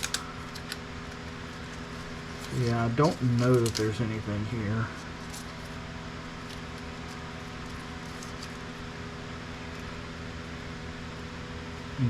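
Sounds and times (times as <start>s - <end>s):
ventilation hum: 0.0s - 12.0s.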